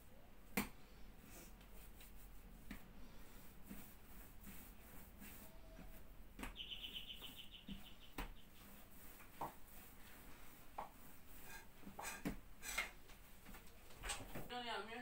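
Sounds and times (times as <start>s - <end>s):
hands rolling dough on wood: 0.4s - 14.0s.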